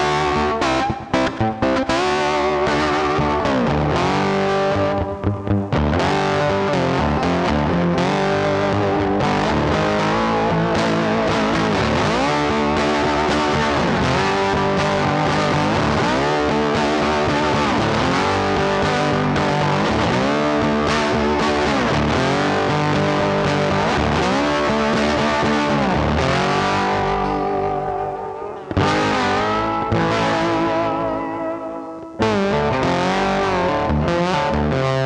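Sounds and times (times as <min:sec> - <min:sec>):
rock music with electric guitar: 0:00.0 - 0:35.0.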